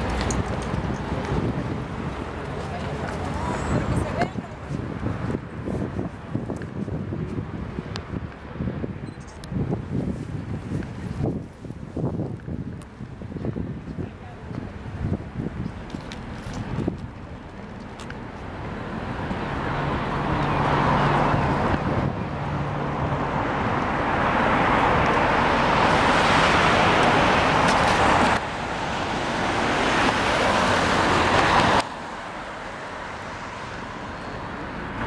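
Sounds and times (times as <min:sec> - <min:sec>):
cars passing close by: 0:00.0 - 0:08.9, 0:14.7 - 0:35.0.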